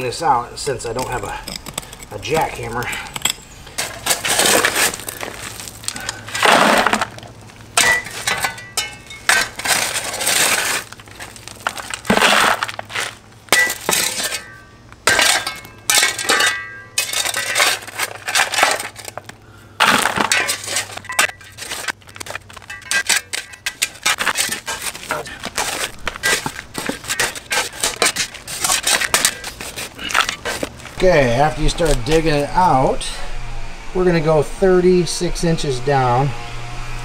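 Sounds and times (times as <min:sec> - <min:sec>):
concrete chunks clinking: 0:00.6 - 0:32.4
shovel scraping concrete rubble: 0:00.6 - 0:33.2.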